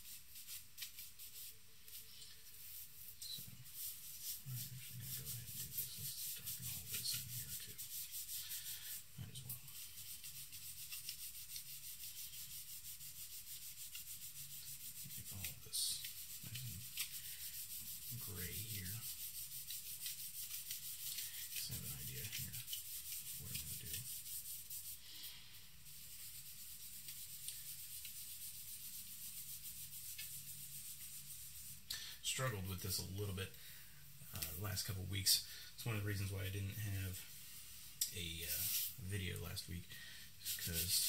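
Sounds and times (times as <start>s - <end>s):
charcoal scratching on paper: 0.0s - 31.9s, 35.9s - 39.5s, 40.4s - 41.0s.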